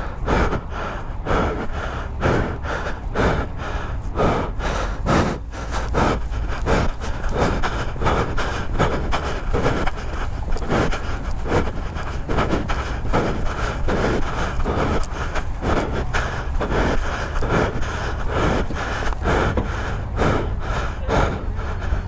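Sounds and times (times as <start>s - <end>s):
low rumble: 0.0s - 22.0s
man breathing heavily: 0.0s - 22.0s.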